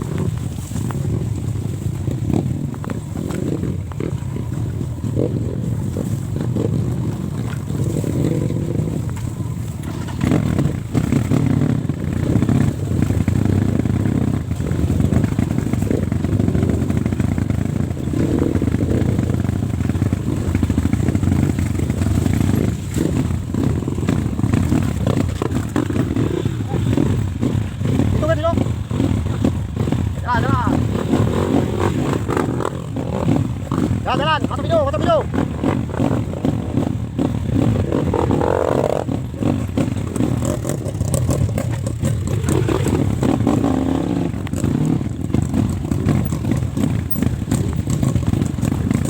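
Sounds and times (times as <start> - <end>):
motorcycle engines revving: 0.0 - 49.0.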